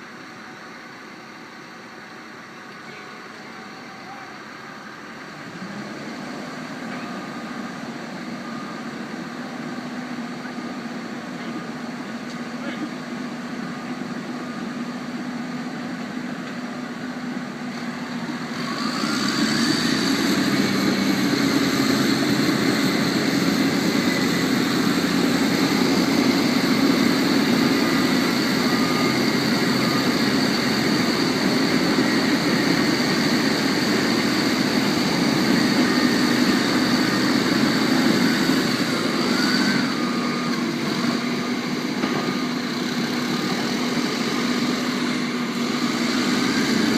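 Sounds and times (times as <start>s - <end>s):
bulldozer engine running: 0.0s - 46.9s.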